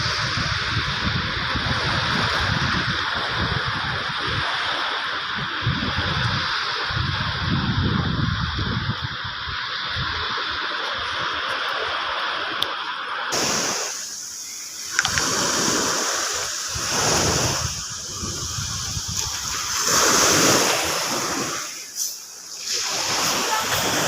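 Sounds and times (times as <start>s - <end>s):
small waves washing: 0.0s - 24.0s.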